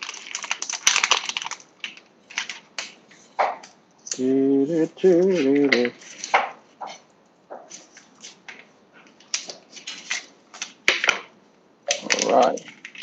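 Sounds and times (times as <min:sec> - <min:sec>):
plastic packaging crinkling: 0:00.0 - 0:04.2, 0:05.0 - 0:06.6, 0:07.6 - 0:11.3, 0:11.9 - 0:13.0.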